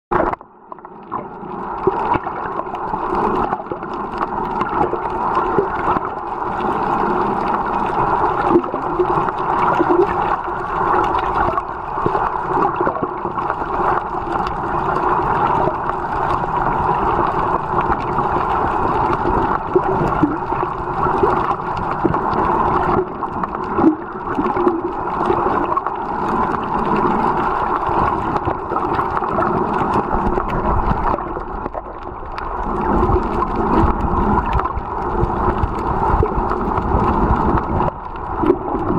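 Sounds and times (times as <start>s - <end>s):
muffled underwater rushing: 0.1s - 38.9s.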